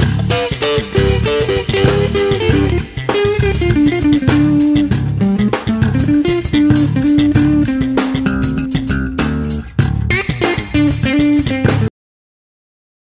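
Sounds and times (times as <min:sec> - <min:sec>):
instrumental guitar music with drums: 0:00.0 - 0:11.9.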